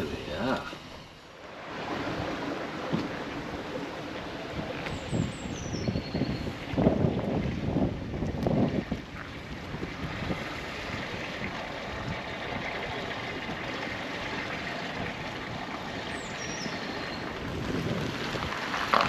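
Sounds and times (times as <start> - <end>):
vehicle rumbling on rough track: 0.0 - 19.0.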